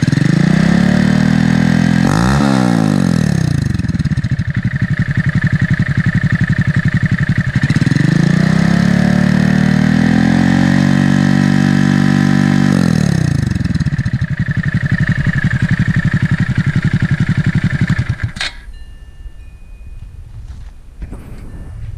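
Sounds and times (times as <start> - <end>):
motorcycle engine idling and revving: 0.0 - 21.9.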